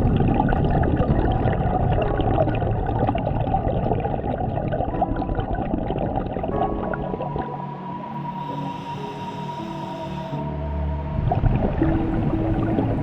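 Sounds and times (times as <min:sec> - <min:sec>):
underwater bubbles gurgling: 0:00.0 - 0:07.6, 0:10.0 - 0:13.0
music: 0:00.0 - 0:13.0.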